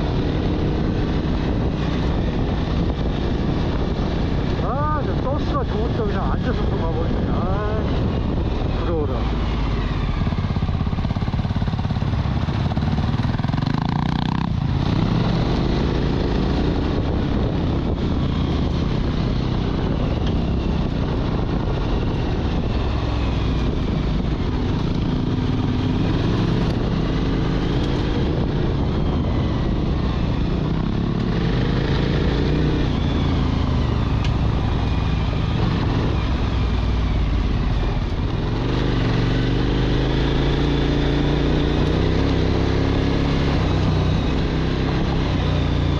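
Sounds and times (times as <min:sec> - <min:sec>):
motorcycle engine revving: 0:00.0 - 0:45.9
road and wind noise: 0:00.0 - 0:45.9.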